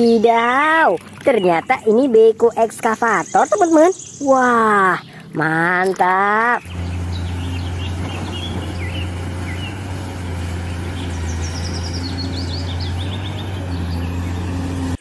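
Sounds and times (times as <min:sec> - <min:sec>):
excavator diesel engine droning: 0:00.0 - 0:15.0
small birds chirping: 0:00.0 - 0:15.0.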